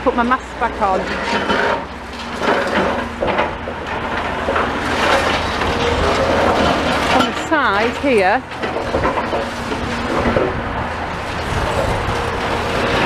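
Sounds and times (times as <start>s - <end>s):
engine rumble: 0.0s - 13.0s
masonry breaking: 0.9s - 13.0s.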